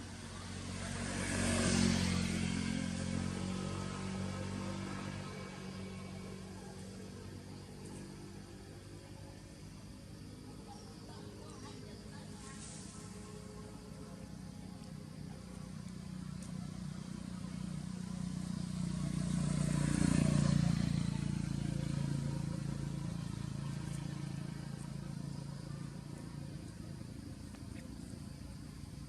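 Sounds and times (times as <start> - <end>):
vehicle passing by: 0.0 - 29.0.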